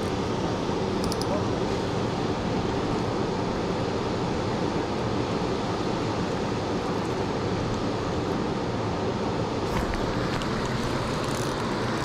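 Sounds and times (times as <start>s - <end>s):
water rushing over dam spillway: 0.0s - 12.0s.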